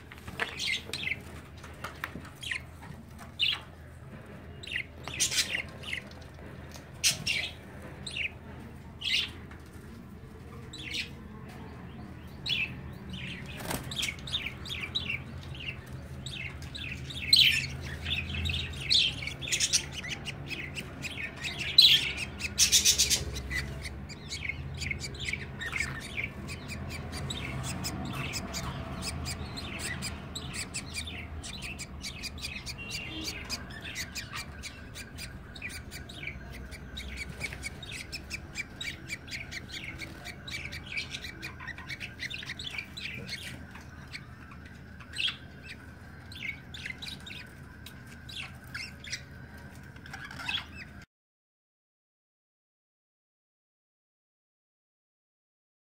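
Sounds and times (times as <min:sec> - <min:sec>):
budgies chirping: 0:00.0 - 0:51.0.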